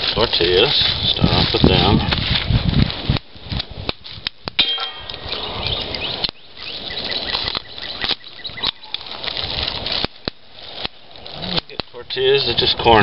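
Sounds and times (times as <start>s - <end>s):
plastic bag rustling: 0.0s - 4.2s, 4.9s - 13.0s.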